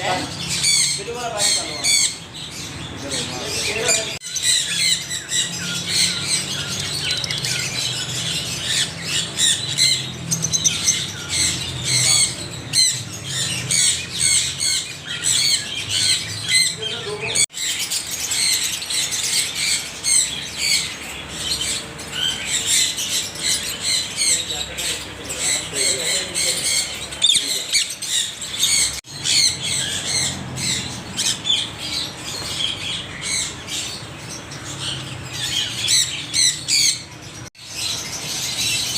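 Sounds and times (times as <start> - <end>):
parrots squawking and chattering: 0.0 - 38.9.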